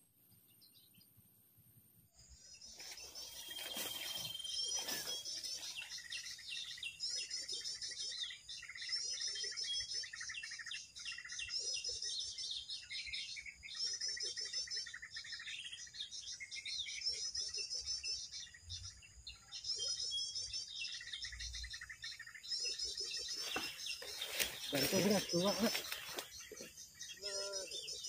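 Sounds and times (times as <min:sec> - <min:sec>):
small songbirds chirping: 0:00.0 - 0:28.0.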